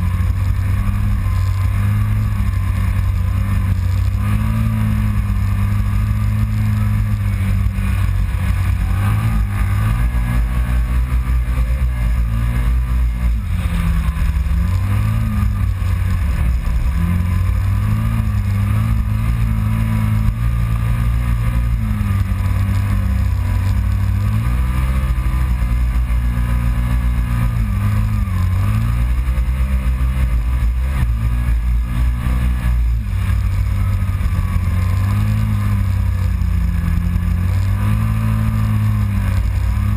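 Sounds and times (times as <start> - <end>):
engine revving: 0.0 - 39.9.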